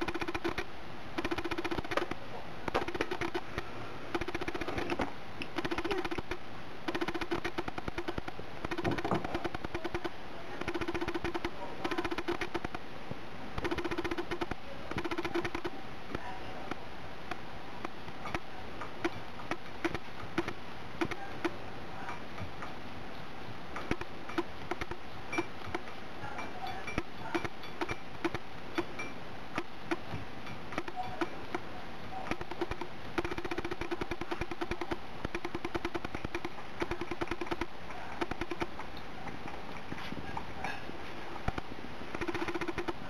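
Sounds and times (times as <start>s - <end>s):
rapid buzzing: 0.0s - 12.9s, 13.5s - 21.7s, 23.7s - 38.8s, 41.4s - 43.0s.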